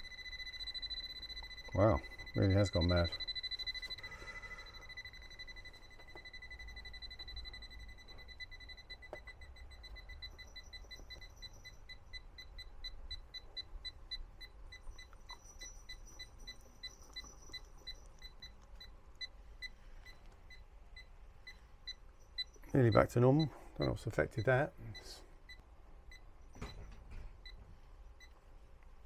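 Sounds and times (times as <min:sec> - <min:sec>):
leak detector tone and beeps: 0:00.0 - 0:28.5.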